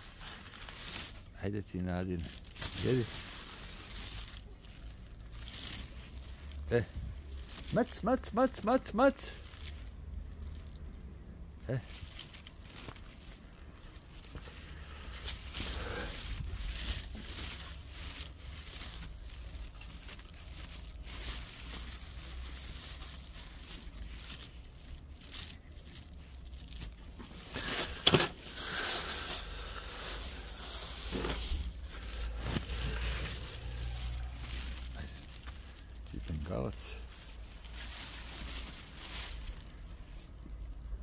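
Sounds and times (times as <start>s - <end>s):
plastic bags rustling: 0.0s - 41.0s.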